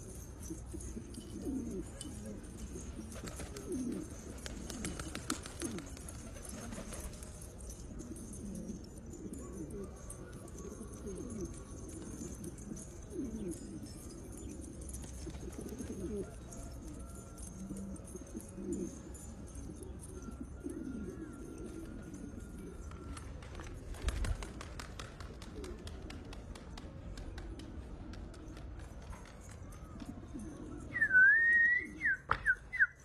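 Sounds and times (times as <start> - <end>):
pigeons cooing: 0.0 - 28.7, 29.9 - 32.9.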